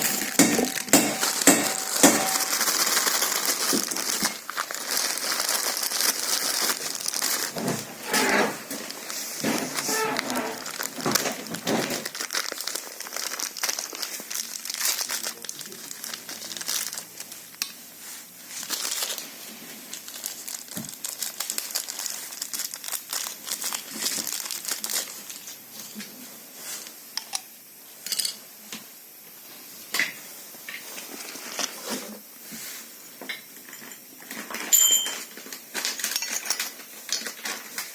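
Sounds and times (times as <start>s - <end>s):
crinkling and rustling: 0.0s - 27.0s, 30.2s - 32.9s, 33.6s - 37.9s.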